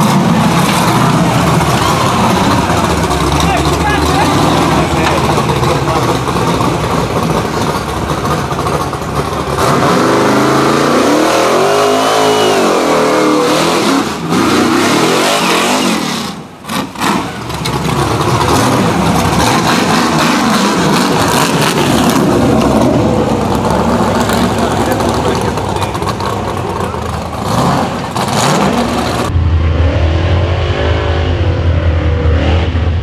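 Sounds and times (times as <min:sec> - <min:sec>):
buggy engine revving hard: 0:00.0 - 0:33.0.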